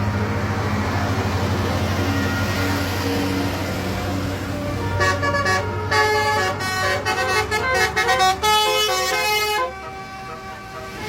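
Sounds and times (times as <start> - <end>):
bus engine humming: 0.0 - 11.0
multi-tone bus horn tune: 2.0 - 11.0.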